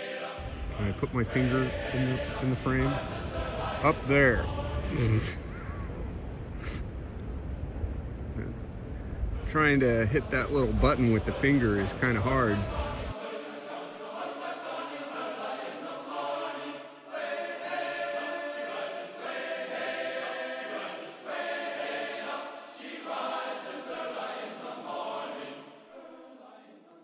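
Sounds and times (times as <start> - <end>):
choir singing: 0.0 - 5.6, 9.4 - 27.0.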